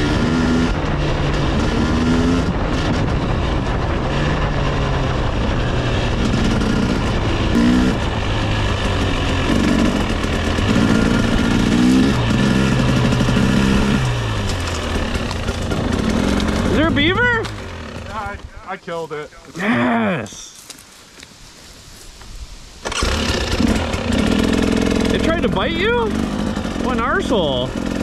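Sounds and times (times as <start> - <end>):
dirt bike engine revving: 0.0 - 18.6, 22.8 - 28.0.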